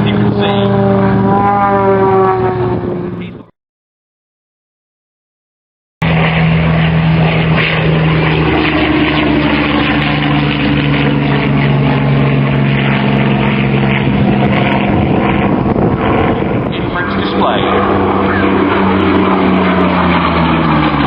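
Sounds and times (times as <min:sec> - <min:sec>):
propeller aircraft engine: 0:00.0 - 0:03.5, 0:06.0 - 0:21.0
wind noise on microphone: 0:00.0 - 0:03.5, 0:07.1 - 0:21.0.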